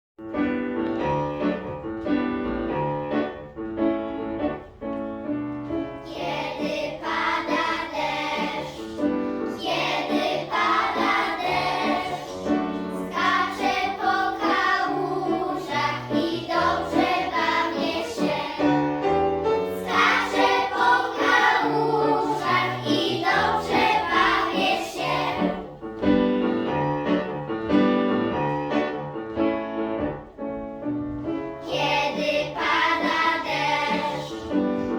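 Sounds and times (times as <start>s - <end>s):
piano accompaniment: 0.2s - 34.9s.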